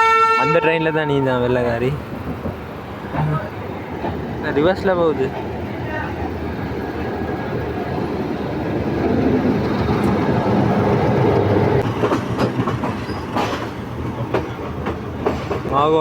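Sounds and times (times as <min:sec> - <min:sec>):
train wheels clattering: 0:01.8 - 0:16.0.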